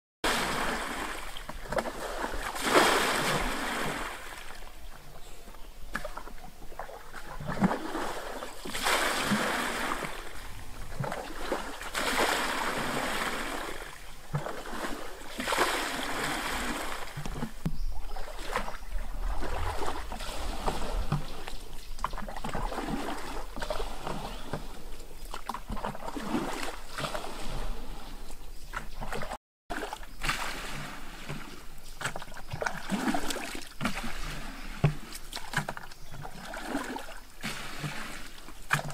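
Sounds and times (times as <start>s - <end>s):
muddy water splashing: 0.2s - 38.9s.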